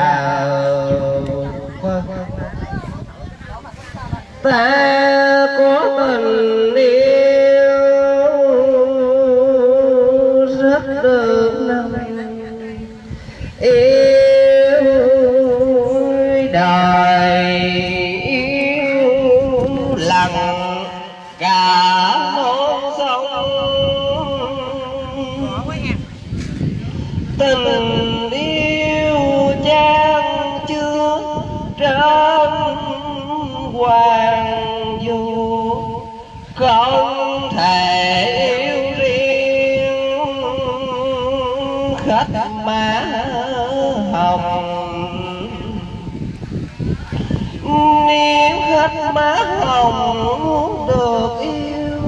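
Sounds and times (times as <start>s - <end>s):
person chanting: 0.0s - 52.0s.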